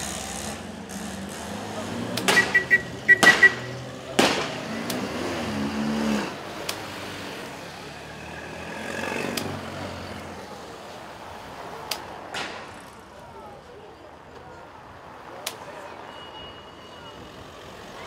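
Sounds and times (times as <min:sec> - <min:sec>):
cars driving past: 0:00.0 - 0:18.0.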